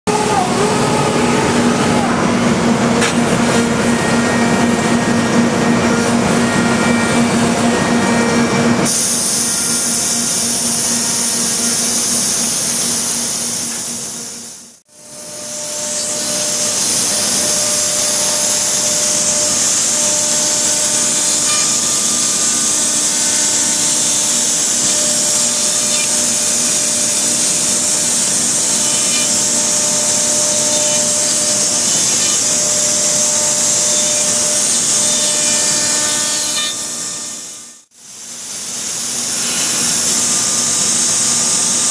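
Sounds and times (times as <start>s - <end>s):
faint spindle whine: 0.1s - 37.9s
router cutting wood hiss: 0.1s - 41.9s.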